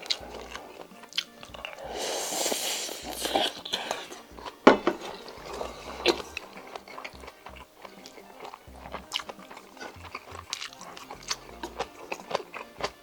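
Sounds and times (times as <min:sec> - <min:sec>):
sharp mouth clicks: 0:00.0 - 0:04.6, 0:05.3 - 0:13.0
person chewing food: 0:00.0 - 0:13.0.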